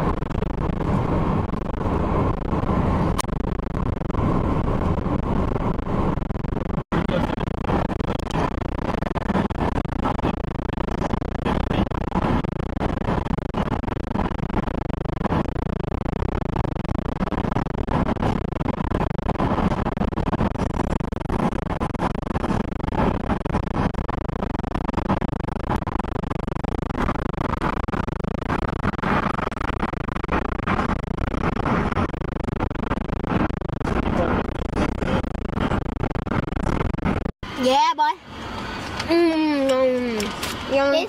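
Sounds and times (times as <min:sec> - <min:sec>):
car road and wind noise: 0:00.0 - 0:41.0.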